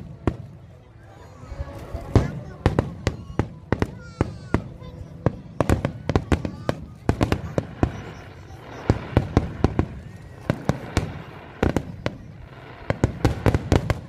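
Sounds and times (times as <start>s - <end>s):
fireworks crackling: 1.7s - 14.0s.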